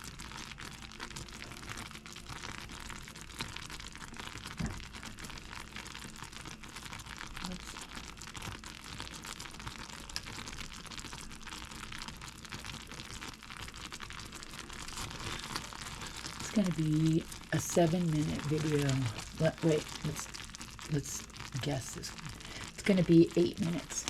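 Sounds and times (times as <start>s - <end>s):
toffee boiling with crackling sizzle: 0.0s - 24.0s.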